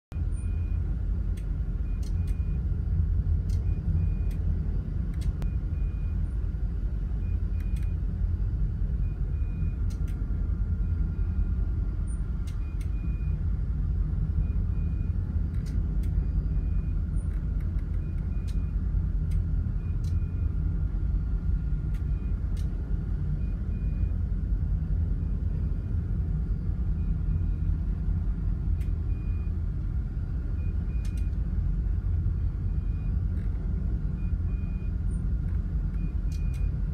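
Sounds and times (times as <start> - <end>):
faint steady hum: 0.1 - 36.9
low ship rumble: 0.1 - 36.9.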